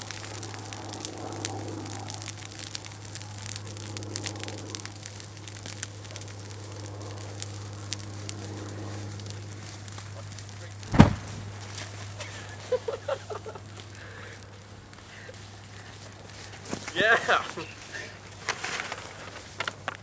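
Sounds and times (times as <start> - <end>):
crackling and rustling: 0.0 - 20.0
low electrical hum: 0.0 - 20.0.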